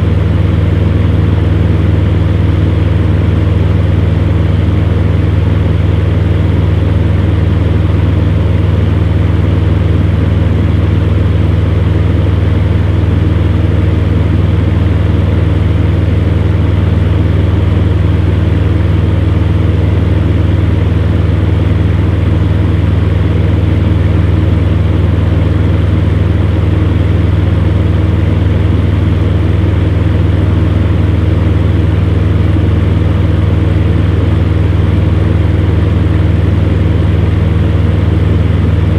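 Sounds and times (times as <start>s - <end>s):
fan heater humming: 0.0s - 38.9s.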